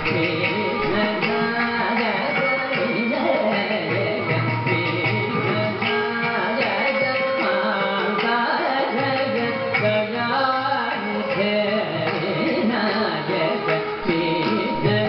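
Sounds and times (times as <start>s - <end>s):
man singing: 0.0s - 15.0s
mridangam drum rhythm: 0.0s - 15.0s
violin: 0.0s - 15.0s.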